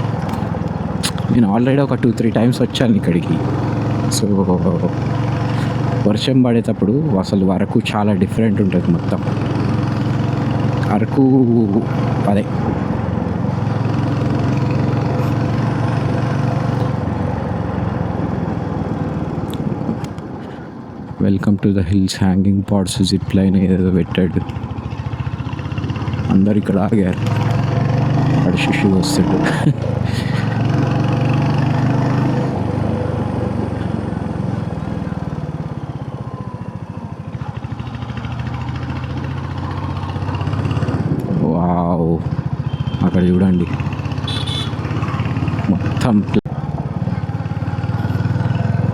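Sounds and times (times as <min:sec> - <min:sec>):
motorcycle engine running: 0:00.0 - 0:21.2, 0:23.0 - 0:48.9.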